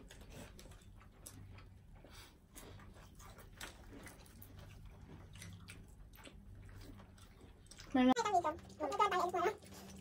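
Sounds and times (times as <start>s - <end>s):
people chewing and lip smacking: 0.0s - 10.0s.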